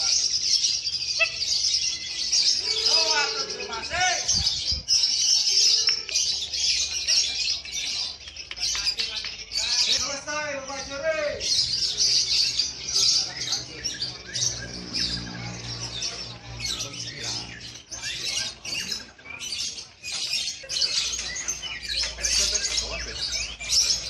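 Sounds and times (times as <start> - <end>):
lovebirds chirping and trilling: 0.0 - 24.0.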